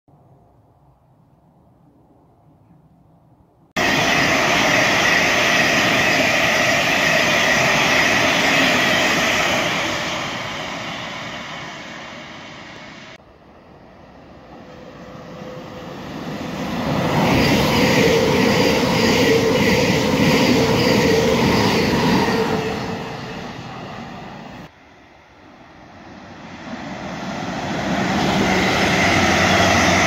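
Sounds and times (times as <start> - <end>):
passenger train running: 3.6 - 30.0
train rushing past: 3.7 - 30.0.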